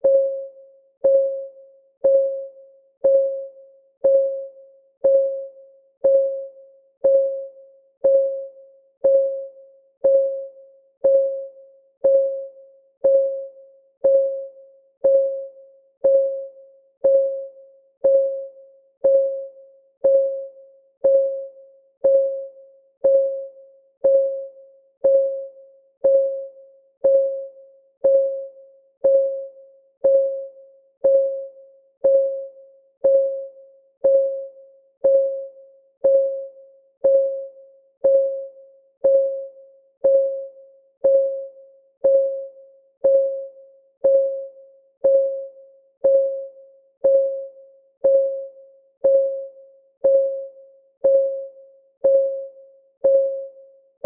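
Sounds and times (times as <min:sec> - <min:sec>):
clock ticking with a ring: 0:00.0 - 0:54.0.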